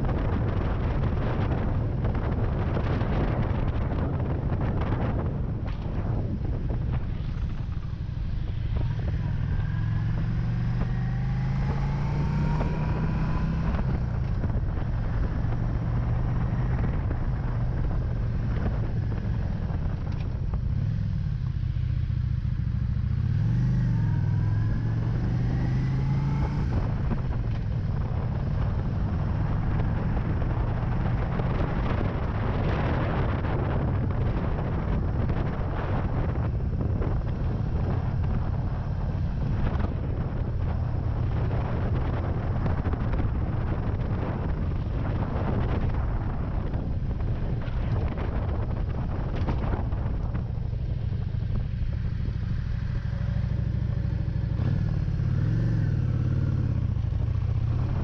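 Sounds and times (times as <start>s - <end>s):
motorcycle engine accelerating: 0.0s - 58.0s
wind rushing over microphone: 0.0s - 58.0s.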